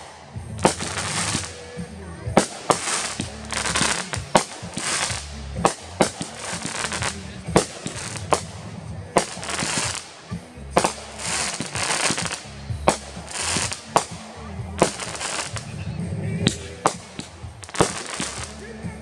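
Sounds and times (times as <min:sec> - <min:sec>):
fireworks banging: 0:00.0 - 0:19.0
fireworks crackling hiss: 0:00.0 - 0:19.0.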